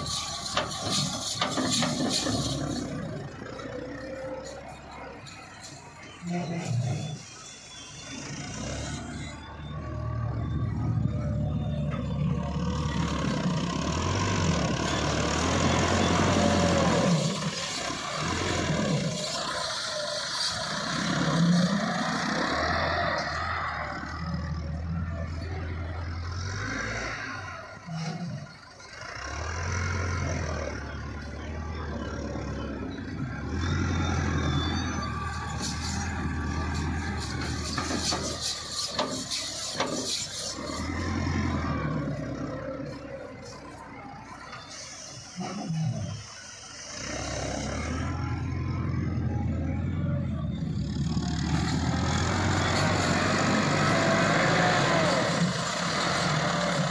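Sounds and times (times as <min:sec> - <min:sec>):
tractor engines running: 0:00.0 - 0:56.9.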